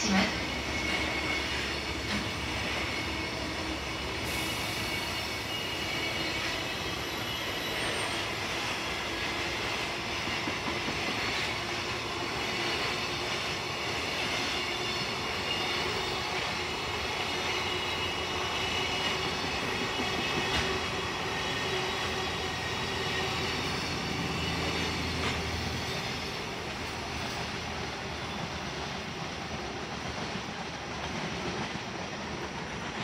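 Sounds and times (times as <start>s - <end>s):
train wheels rolling on rail: 0.0s - 33.0s.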